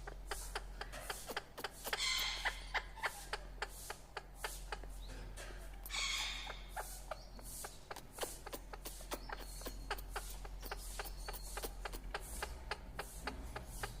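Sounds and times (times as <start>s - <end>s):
birds clicking: 0.0s - 14.0s
bird squawk: 0.3s - 3.5s, 5.9s - 14.0s.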